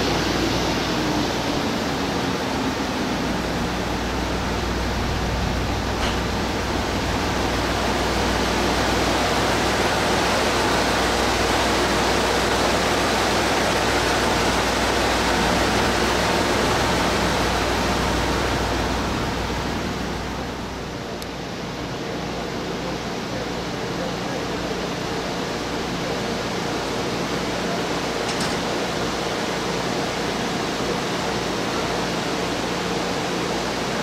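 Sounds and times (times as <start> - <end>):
train air-conditioning humming: 0.0 - 34.0.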